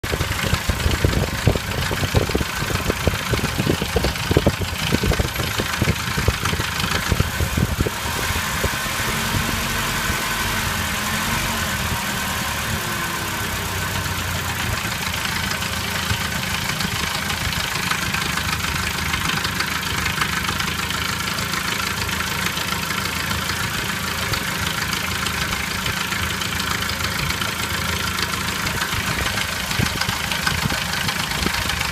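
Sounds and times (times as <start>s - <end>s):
car engine idling with knock: 0.0s - 31.9s.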